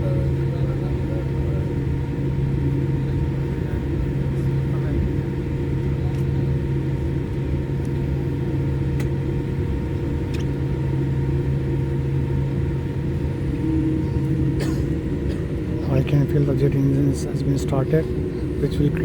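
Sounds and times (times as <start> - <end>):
jet engines heard from cabin: 0.0 - 19.0.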